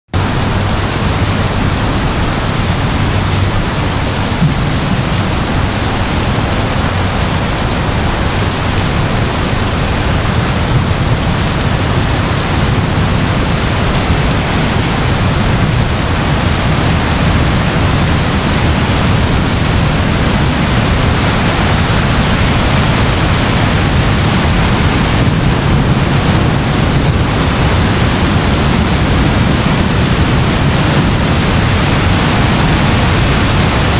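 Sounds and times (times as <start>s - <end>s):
heavy rain pouring: 0.1s - 33.9s
thunder rumble: 0.2s - 33.9s.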